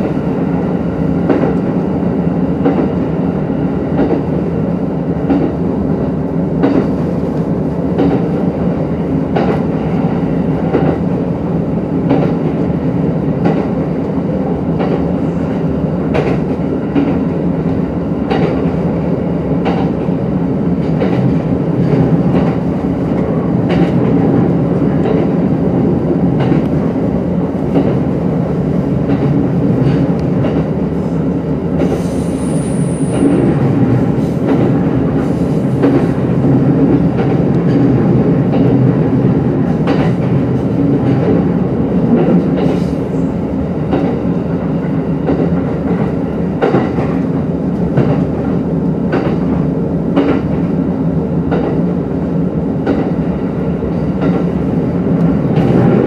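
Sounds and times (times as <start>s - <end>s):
train running gear rumble: 0.0s - 56.0s.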